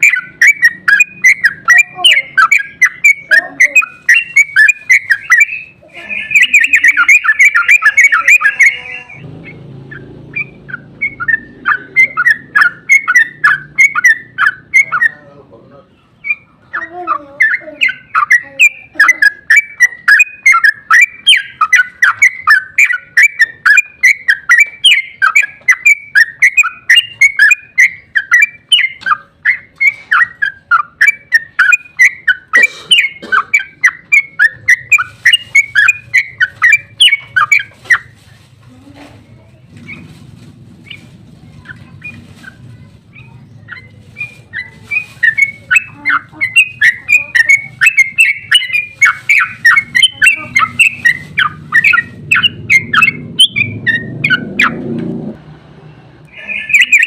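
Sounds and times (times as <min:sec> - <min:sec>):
bird singing whistled notes: 0:00.0 - 0:15.2, 0:16.2 - 0:38.2, 0:41.7 - 0:54.8, 0:56.3 - 0:57.0.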